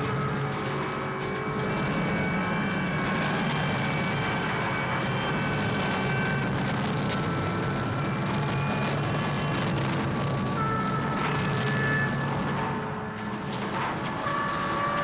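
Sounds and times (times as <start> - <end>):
heavy low drone: 0.0 - 15.0
rumbling noise music: 0.0 - 15.0.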